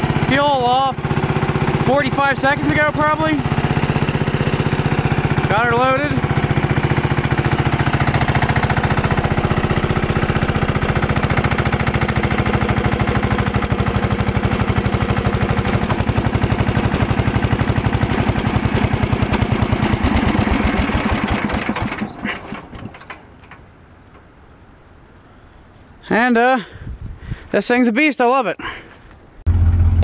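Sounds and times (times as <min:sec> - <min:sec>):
small lawn mower engine running: 0:00.0 - 0:23.8, 0:29.5 - 0:30.0.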